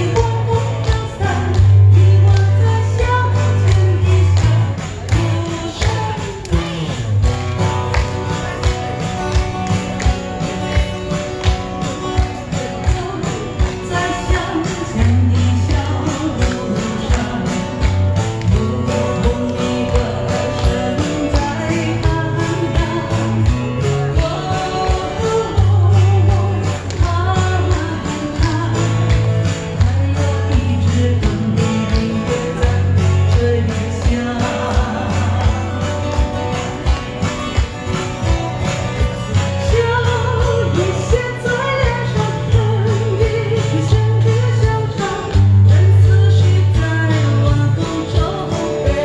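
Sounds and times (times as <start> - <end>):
live pop music with guitar: 0.0 - 49.0
person singing: 0.0 - 49.0.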